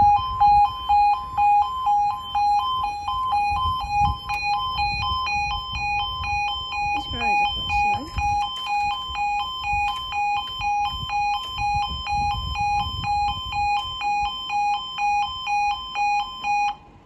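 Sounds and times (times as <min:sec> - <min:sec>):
two-tone level crossing alarm: 0:00.0 - 0:17.0.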